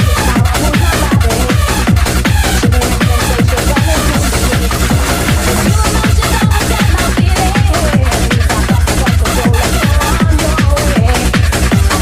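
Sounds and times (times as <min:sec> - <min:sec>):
techno dance music: 0:00.0 - 0:12.0.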